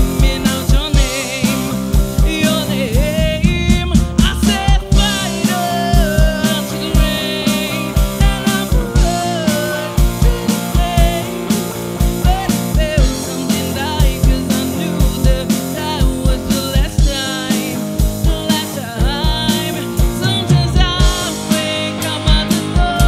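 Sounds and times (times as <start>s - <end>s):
drum kit with kick-drum beat: 0.0s - 23.0s
electric bass: 0.0s - 23.0s
electric guitar: 0.0s - 23.0s
woman singing: 0.0s - 23.0s.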